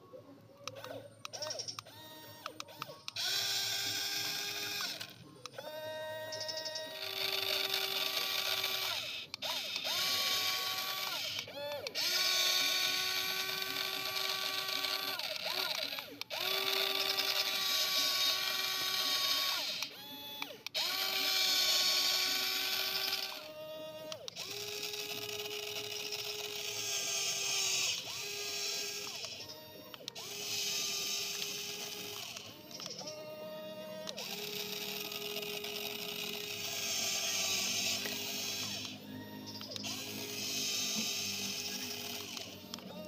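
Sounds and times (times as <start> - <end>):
small electric motors whining: 0.0 - 43.0.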